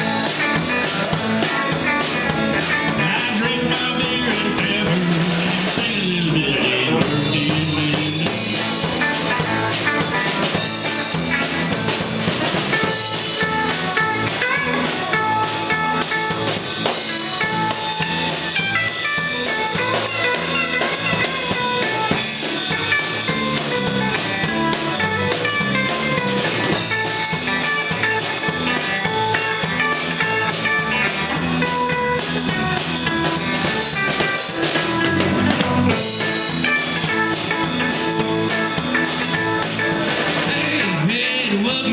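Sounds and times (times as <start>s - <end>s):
blues band playing: 0.0s - 41.9s.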